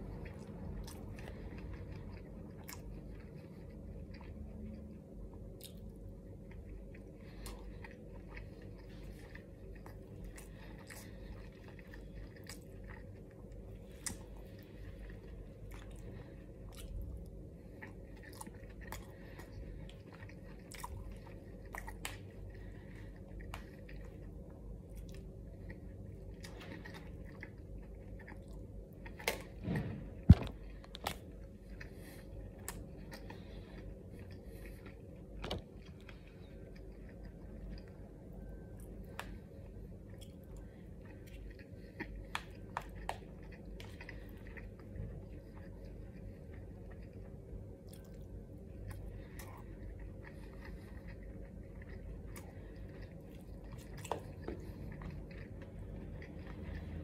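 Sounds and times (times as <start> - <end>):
close-up chewing: 0.0 - 57.0.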